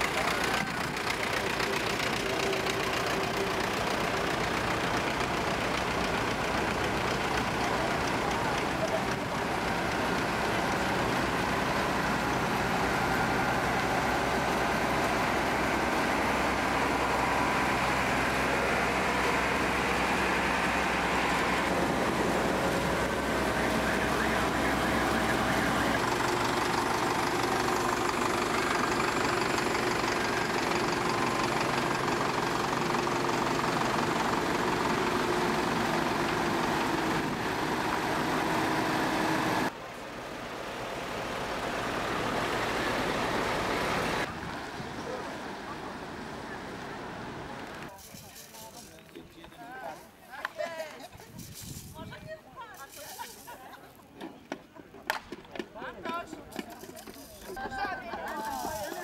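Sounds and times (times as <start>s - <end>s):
diesel farm machinery engines: 0.0s - 59.0s.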